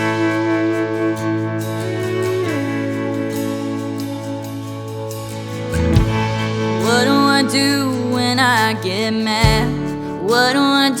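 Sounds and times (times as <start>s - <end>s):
instrumental music with bass: 0.0s - 10.9s.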